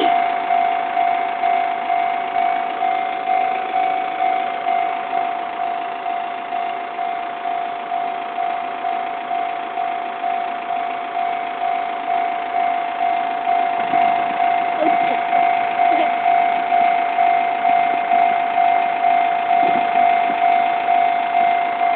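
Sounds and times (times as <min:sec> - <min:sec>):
level crossing alarm bell ringing: 0:00.0 - 0:21.9.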